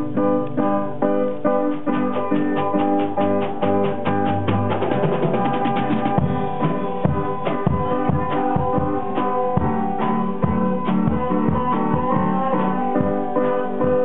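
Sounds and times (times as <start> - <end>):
band playing: 0.0 - 14.0.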